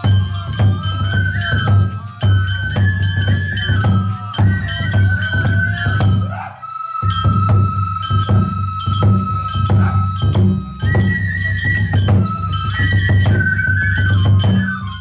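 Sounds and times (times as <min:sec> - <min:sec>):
drum and percussion strokes: 0:00.0 - 0:15.0
flute playing high melody: 0:00.0 - 0:15.0.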